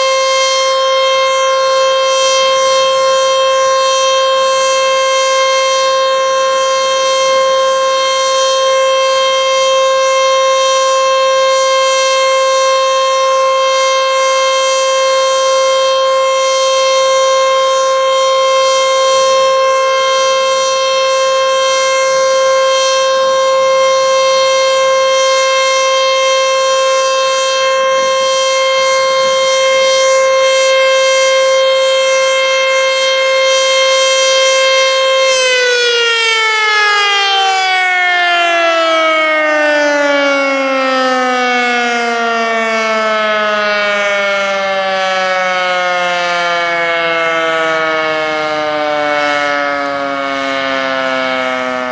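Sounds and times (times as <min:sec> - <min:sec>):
warning siren steady tone: 0:00.0 - 0:51.9.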